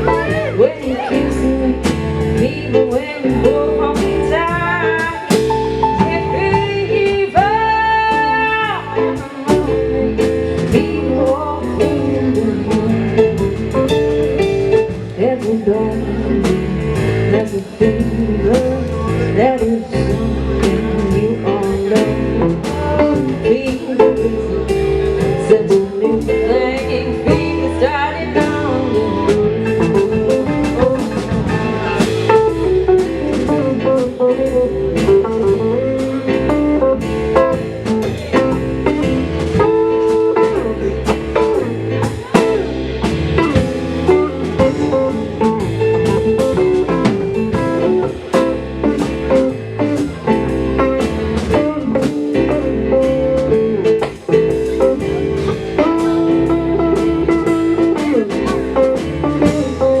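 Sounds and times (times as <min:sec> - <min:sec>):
bass guitar: 0:00.0 - 1:00.0
drum kit: 0:00.0 - 1:00.0
electric guitar: 0:00.0 - 1:00.0.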